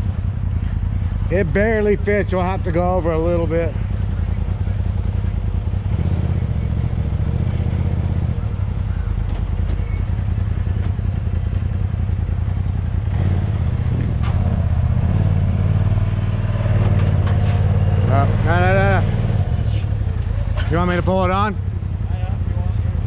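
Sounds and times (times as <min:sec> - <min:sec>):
engine idling with low pulsing note: 0:00.0 - 0:23.0.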